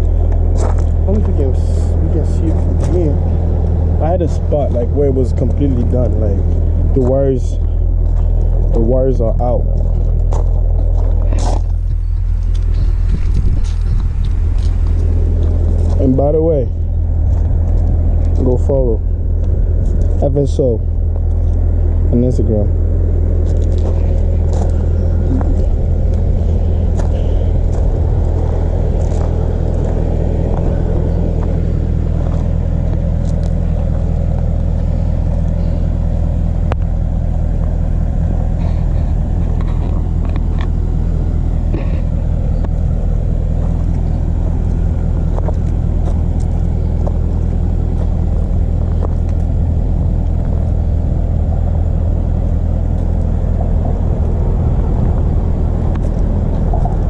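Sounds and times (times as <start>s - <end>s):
car engine and exhaust running: 0.0s - 57.0s.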